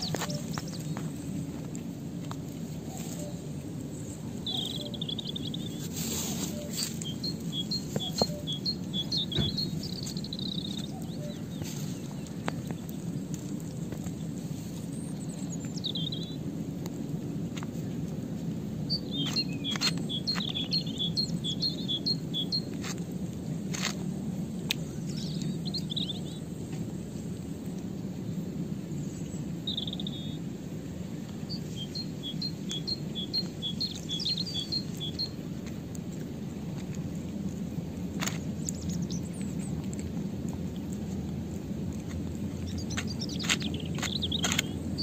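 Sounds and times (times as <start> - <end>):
songbird chirping: 0.0 - 16.5, 18.4 - 23.0, 24.7 - 27.0, 29.0 - 37.6, 38.2 - 40.1, 42.0 - 45.0
low hum: 0.0 - 45.0.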